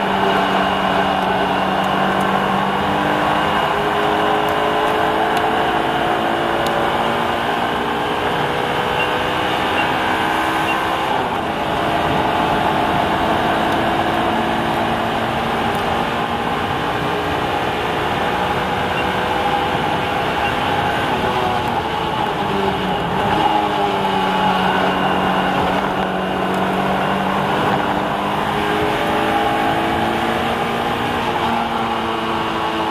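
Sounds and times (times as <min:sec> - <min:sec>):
race car engine revving: 0:00.0 - 0:32.9.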